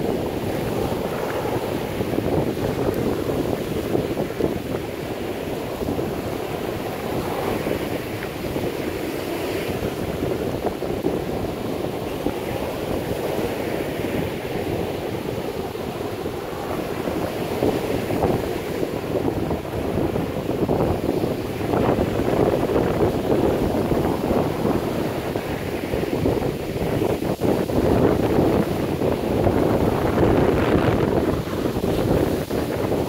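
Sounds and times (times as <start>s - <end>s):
surf breaking on sandy beach: 0.0s - 33.0s
wind buffeting microphone: 0.0s - 33.0s.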